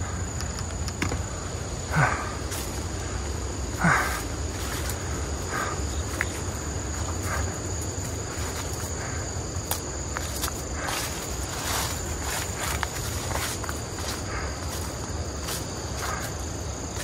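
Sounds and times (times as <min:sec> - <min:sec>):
insect drone: 0:00.0 - 0:17.0
footsteps on grassy dirt path: 0:02.0 - 0:17.0.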